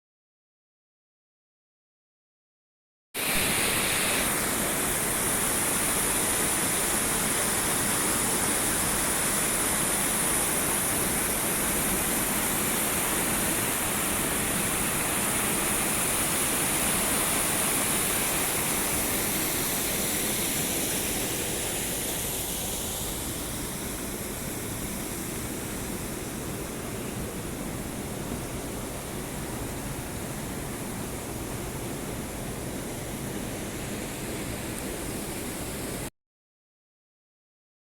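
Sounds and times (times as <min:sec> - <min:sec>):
waterfall rushing: 0:03.2 - 0:36.1.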